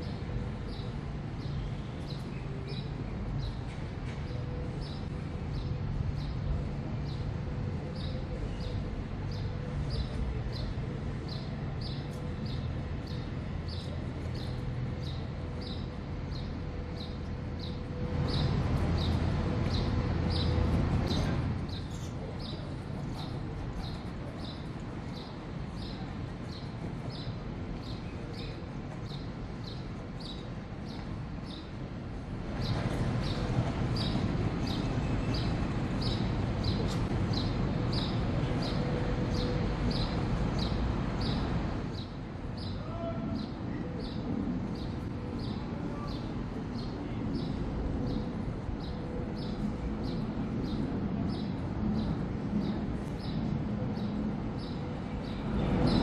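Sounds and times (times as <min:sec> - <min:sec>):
low city hum: 0:00.0 - 0:56.0.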